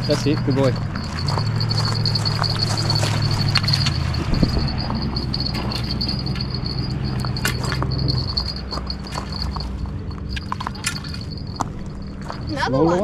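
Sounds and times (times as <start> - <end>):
high insect trill: 0.0 - 13.0
low engine hum: 0.0 - 13.0.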